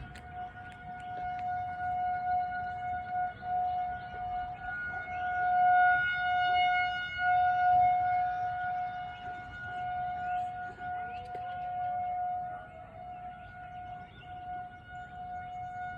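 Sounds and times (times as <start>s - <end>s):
rotating siren steady tone: 0.0s - 15.9s.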